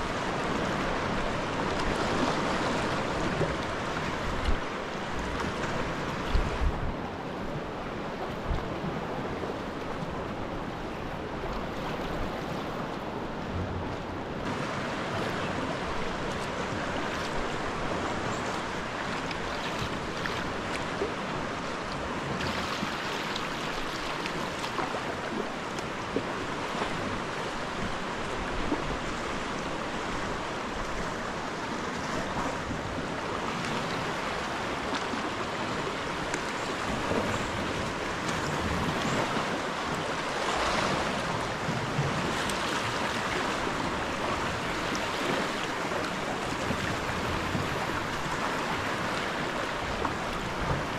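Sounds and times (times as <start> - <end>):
water lapping over rocks: 0.0 - 6.7, 7.4 - 50.9.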